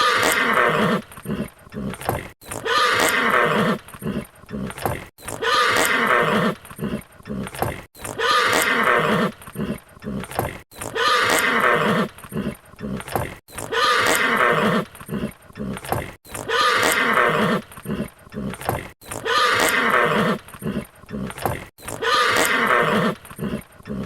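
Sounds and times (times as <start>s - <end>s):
horse whinnying: 0.0s - 24.0s.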